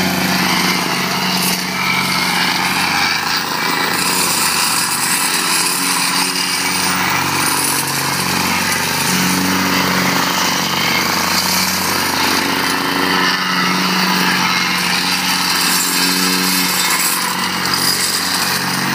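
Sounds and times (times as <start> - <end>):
plate compactor running: 0.0 - 18.9.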